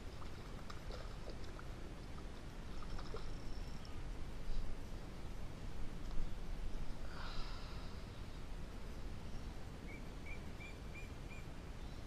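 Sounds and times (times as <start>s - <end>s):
low outdoor background noise: 0.0s - 12.0s
rustle: 0.0s - 12.0s.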